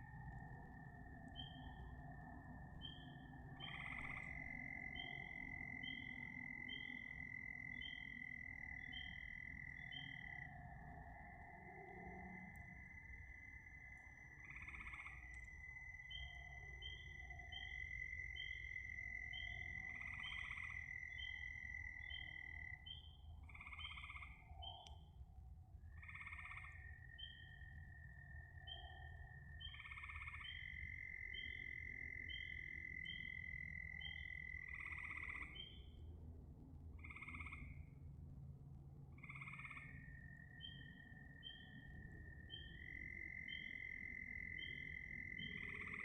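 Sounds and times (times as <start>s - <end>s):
frogs chirping: 0.0s - 36.1s, 36.9s - 38.0s, 39.1s - 46.0s
low frog call: 2.9s - 25.0s, 25.9s - 36.0s, 37.0s - 38.0s, 39.2s - 46.0s.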